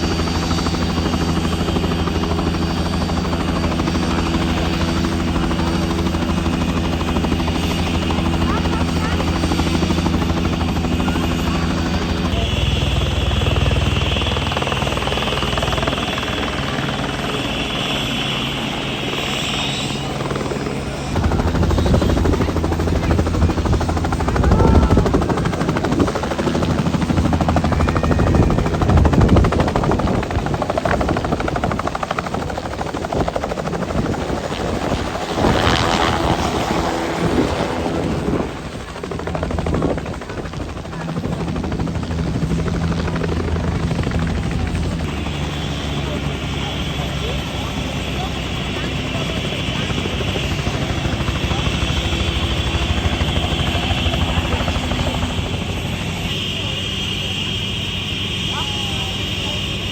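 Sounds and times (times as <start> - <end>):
helicopter rotor blade chop: 0.0 - 59.9
helicopter turbine whine: 0.0 - 59.9.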